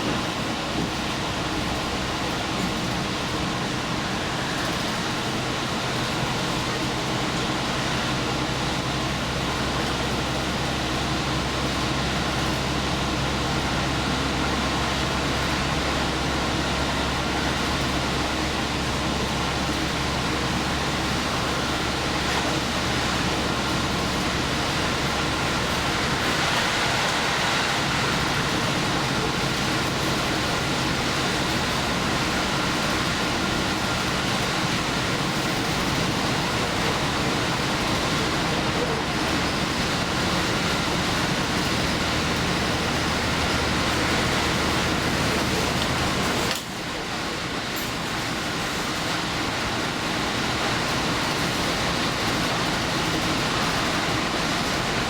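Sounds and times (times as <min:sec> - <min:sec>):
train engine hum: 0:00.0 - 0:55.0
train wheels rumbling on rail: 0:00.0 - 0:55.0.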